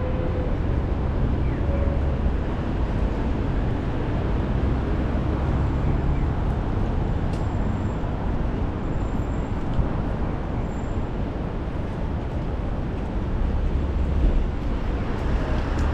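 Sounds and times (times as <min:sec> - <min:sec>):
traffic on wet road: 0:00.1 - 0:15.9.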